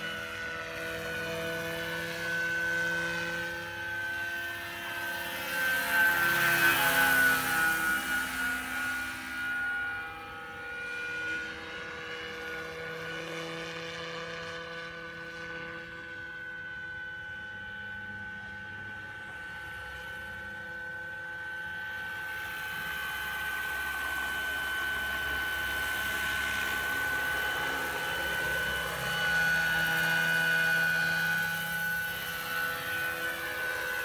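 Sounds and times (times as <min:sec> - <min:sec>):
model helicopter flying past: 0:00.0 - 0:34.0.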